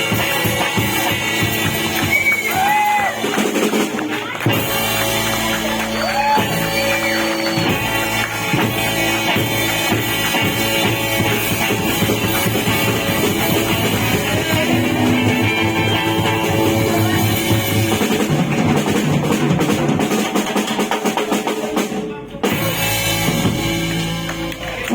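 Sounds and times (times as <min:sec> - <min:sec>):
rock band instrumental: 0:00.0 - 0:24.9.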